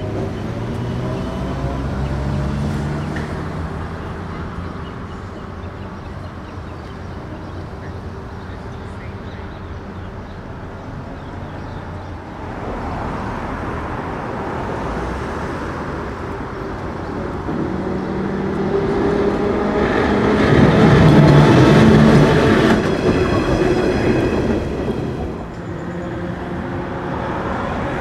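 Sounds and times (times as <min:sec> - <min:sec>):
streetcar rumbling on rails: 0:00.0 - 0:28.0.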